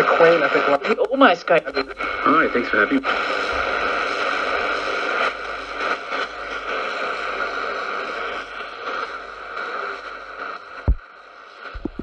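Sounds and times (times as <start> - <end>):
faint crackles: 0.0 - 12.0
radio static hiss: 0.0 - 12.0.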